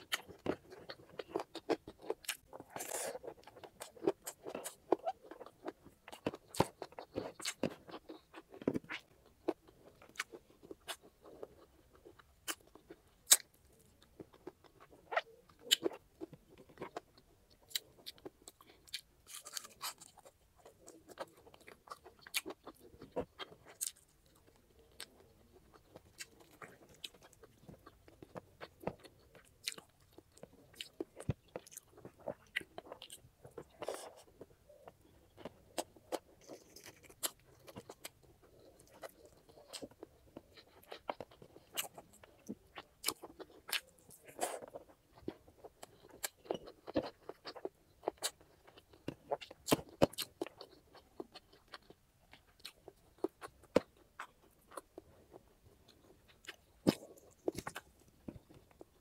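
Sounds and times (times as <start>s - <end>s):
chewing with wet mouth clicks: 0.0s - 59.0s.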